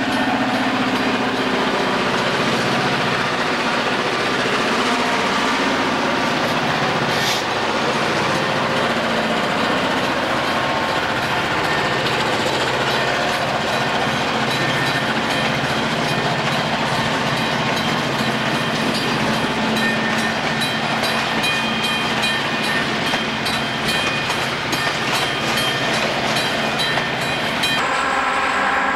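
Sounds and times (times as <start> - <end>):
diesel locomotive engine: 0.0 - 28.9
rail and wheel noise: 0.0 - 28.9.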